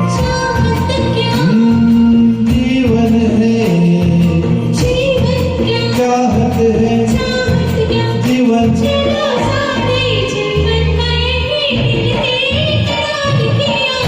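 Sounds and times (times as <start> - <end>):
karaoke backing track with beat: 0.0 - 14.0
people singing a duet: 0.0 - 14.0.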